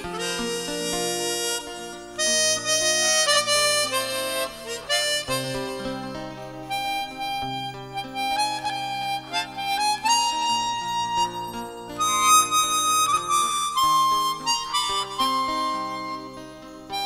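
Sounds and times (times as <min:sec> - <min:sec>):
harmonica solo melody: 0:00.0 - 0:17.0.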